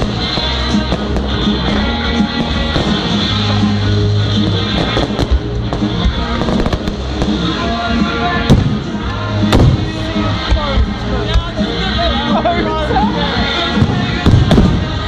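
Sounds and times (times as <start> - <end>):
fireworks bangs: 0.0 - 12.1, 13.7 - 15.0
loud music: 0.0 - 15.0.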